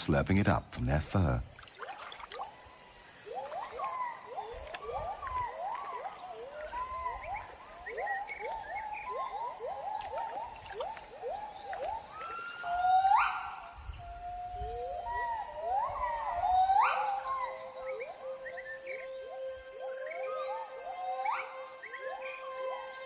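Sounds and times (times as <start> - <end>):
gibbon whooping calls: 3.2 - 23.0.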